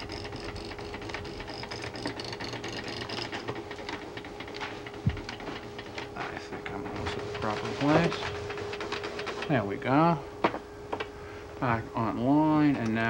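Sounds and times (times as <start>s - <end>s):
printer paper feed clicking: 0.0s - 11.1s.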